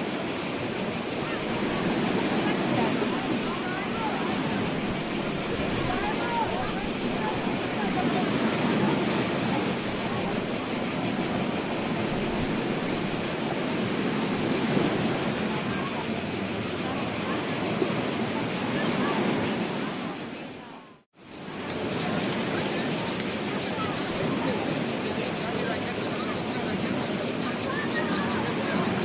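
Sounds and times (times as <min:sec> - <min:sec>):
insects buzzing: 0:00.0 - 0:29.0
ocean surf on a beach: 0:00.0 - 0:29.0.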